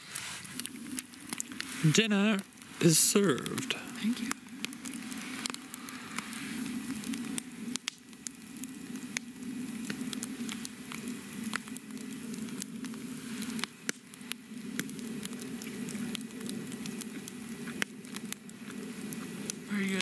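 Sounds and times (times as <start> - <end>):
campfire crackling: 0.0 - 20.0
fire popping: 0.0 - 20.0.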